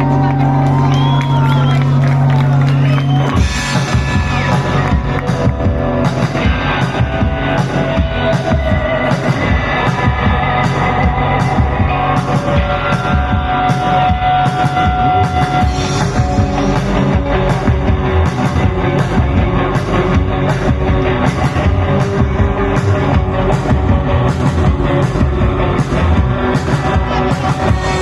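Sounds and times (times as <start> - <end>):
live rock band playing: 0.0 - 28.0
held lead guitar notes: 3.4 - 28.0.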